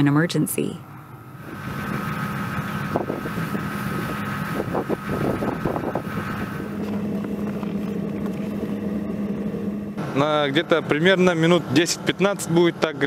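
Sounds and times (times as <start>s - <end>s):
forced-air heater humming: 0.8s - 13.0s.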